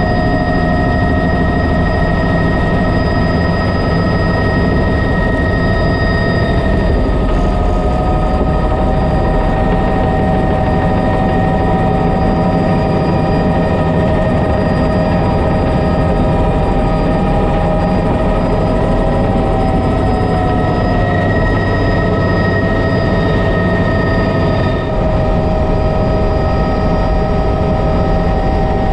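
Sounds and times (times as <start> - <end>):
helicopter engine and rotor rumble: 0.0 - 28.9
helicopter turbine whine: 0.0 - 28.9.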